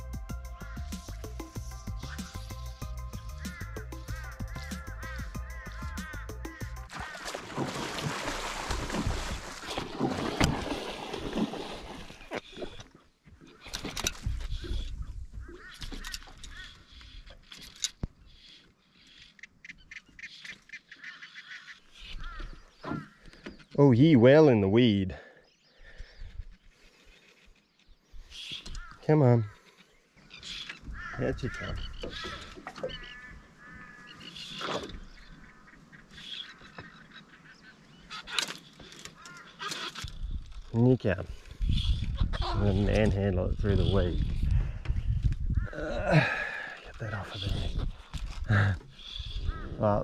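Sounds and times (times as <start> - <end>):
birds honking and chirping: 0.0 - 24.1, 25.2 - 50.0.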